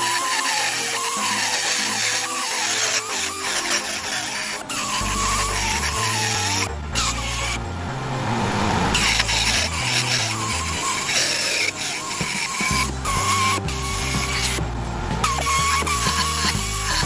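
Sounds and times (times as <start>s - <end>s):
die grinder grinding steel: 0.0s - 17.0s.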